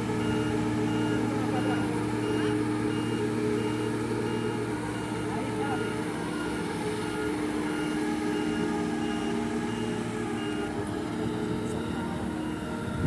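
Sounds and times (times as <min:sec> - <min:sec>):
engine humming: 0:00.0 - 0:13.0
warning alarm beeping: 0:00.1 - 0:13.0.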